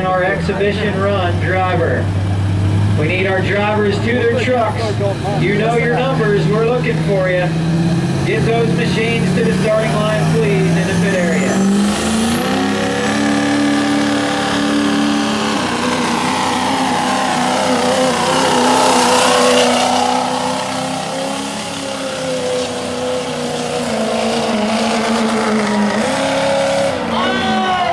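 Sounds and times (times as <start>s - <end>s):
diesel truck engine under load: 0.0s - 27.9s.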